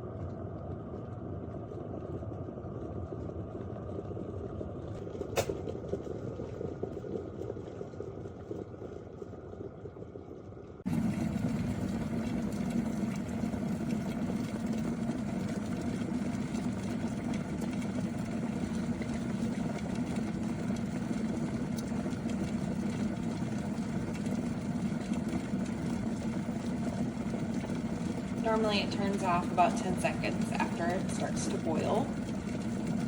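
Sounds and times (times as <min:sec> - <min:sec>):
kettle boiling with bubbling rumble: 0:00.0 - 0:33.0.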